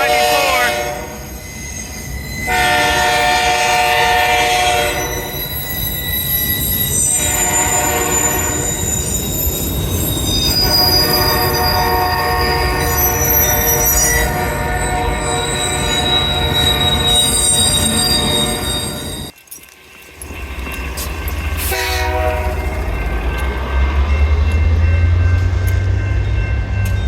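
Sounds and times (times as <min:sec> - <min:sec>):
freight train rumbling: 0:00.0 - 0:27.0
wheels squealing: 0:00.9 - 0:25.9.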